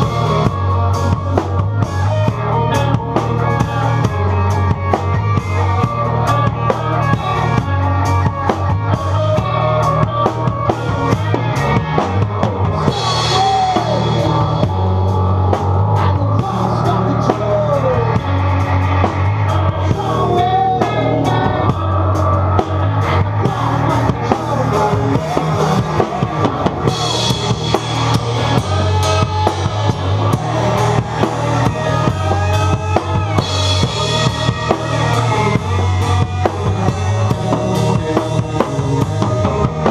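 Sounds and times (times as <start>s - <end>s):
drum kit beat: 0.0s - 39.9s
rock band playing: 0.0s - 39.9s.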